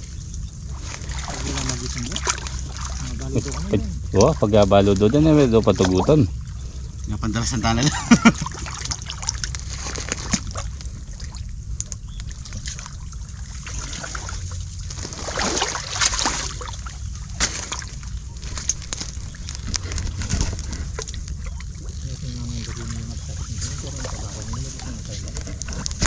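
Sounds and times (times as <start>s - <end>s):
muddy water sloshing and splashing: 0.0s - 26.0s
steady low rumble: 0.0s - 26.0s
water drips: 0.0s - 26.0s.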